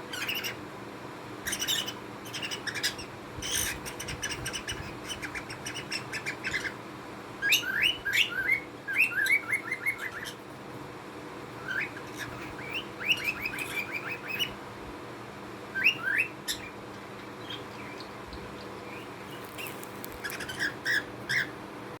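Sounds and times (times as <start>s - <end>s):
faint electrical hum: 0.0s - 22.0s
small birds chirping: 0.1s - 0.6s, 1.4s - 6.8s, 7.4s - 10.6s, 11.5s - 14.6s, 15.7s - 21.6s.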